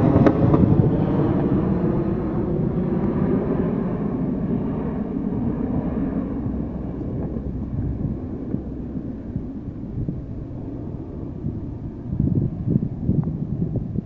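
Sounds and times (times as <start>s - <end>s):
distant turboprop aircraft drone: 0.0s - 14.0s
wind buffeting microphone: 0.0s - 14.0s.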